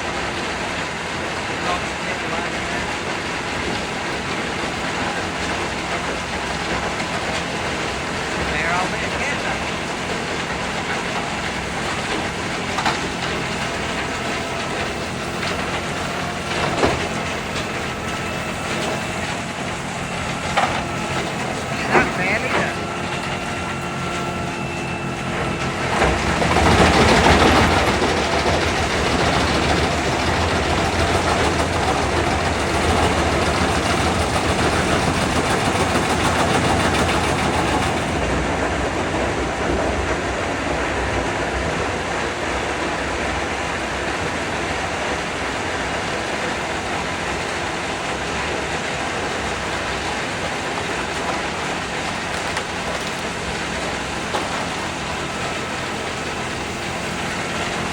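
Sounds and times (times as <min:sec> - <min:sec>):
wood chipper chipping logs: 0:00.0 - 0:57.9.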